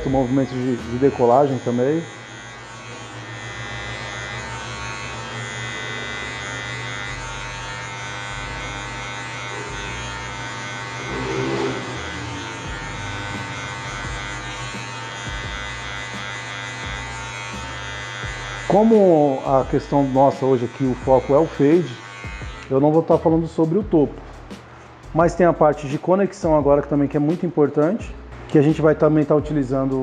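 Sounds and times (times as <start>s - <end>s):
electric hair clipper buzzing: 0.0s - 26.2s.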